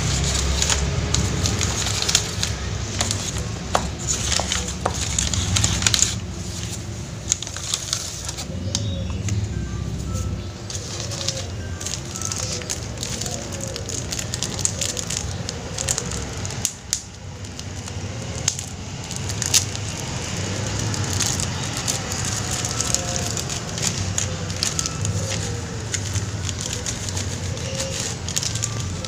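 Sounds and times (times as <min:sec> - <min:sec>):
crackling and rustling: 0:00.0 - 0:29.0.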